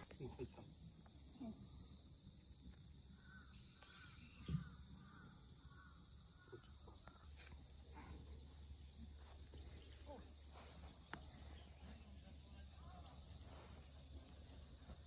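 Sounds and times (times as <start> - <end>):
high insect drone: 0.0 - 15.0
distant bird calling: 2.9 - 15.0.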